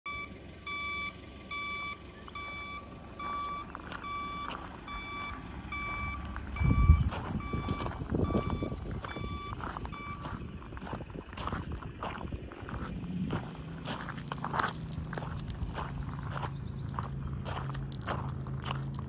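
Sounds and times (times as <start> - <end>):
vehicle reversing alarm beeping: 0.1 - 19.0
footsteps on gravel: 3.2 - 19.0.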